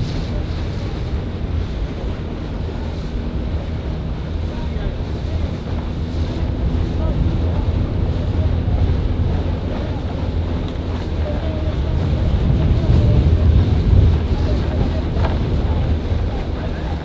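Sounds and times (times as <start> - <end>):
motor boat droning: 0.0 - 17.0
water washing past: 0.0 - 17.0
wind buffeting microphone: 0.0 - 17.0.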